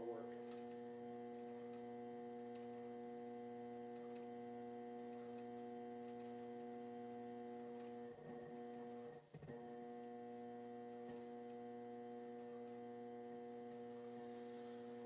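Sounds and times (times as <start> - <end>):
potter's wheel motor humming: 0.0 - 15.0.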